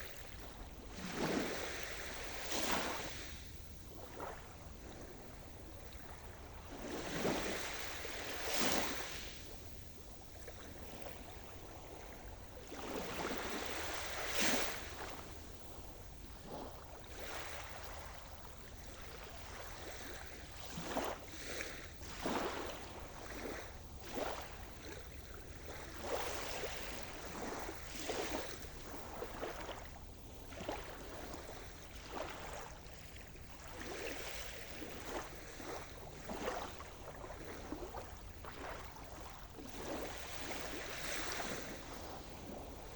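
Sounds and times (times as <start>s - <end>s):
waves breaking on shore: 0.0s - 42.9s.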